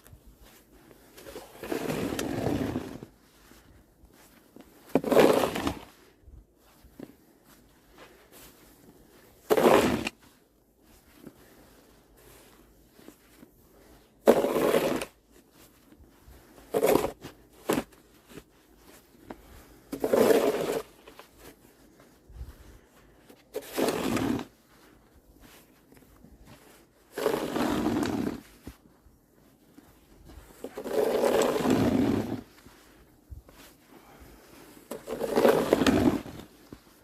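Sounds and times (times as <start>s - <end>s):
snow shovel scraping pavement: 0.3s - 6.2s, 6.8s - 28.9s, 29.6s - 37.0s.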